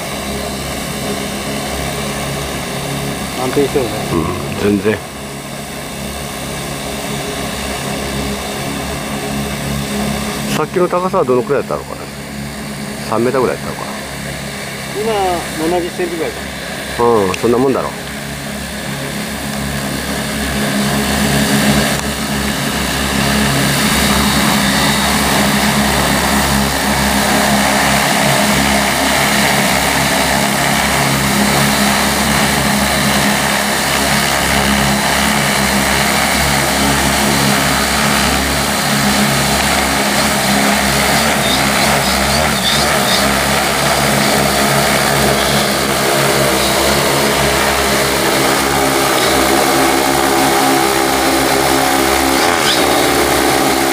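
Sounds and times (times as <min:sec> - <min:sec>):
drone rotors droning: 0:00.0 - 0:53.9.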